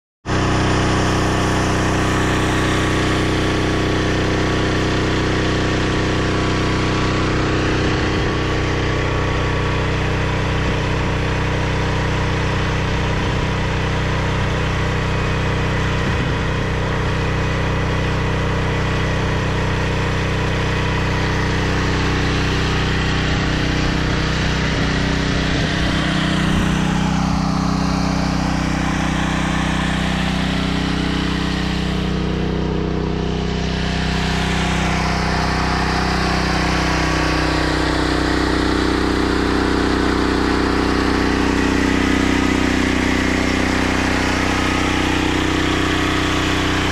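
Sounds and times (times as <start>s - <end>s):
small engine humming: 0.2s - 46.9s.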